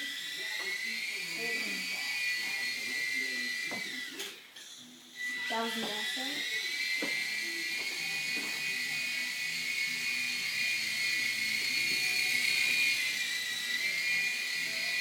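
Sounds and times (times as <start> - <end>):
toy helicopter motor whine: 0.0 - 15.0.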